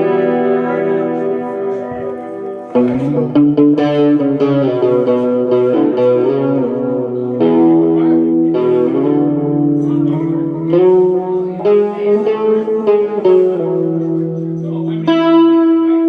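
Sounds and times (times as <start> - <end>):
strummed guitar playing: 0.0 - 16.0.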